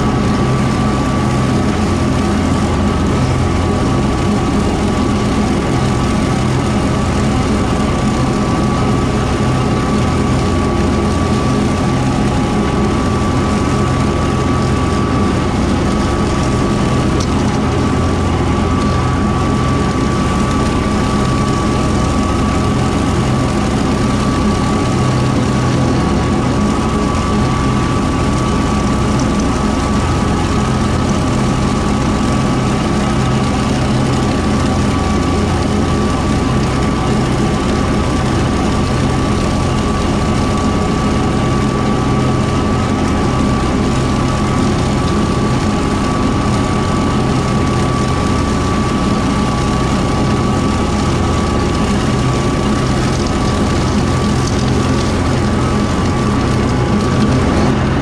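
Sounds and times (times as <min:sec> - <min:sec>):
rotary mower: 0:00.0 - 0:58.0
steady high whine: 0:00.0 - 0:58.0
tractor diesel engine running: 0:00.0 - 0:58.0.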